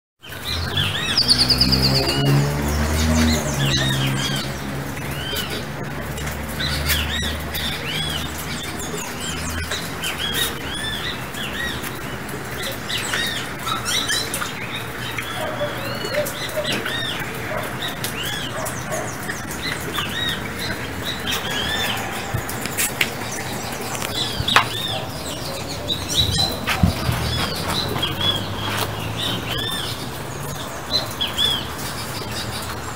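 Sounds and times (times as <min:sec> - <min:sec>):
birds chirping and calling: 0:00.2 - 0:32.9.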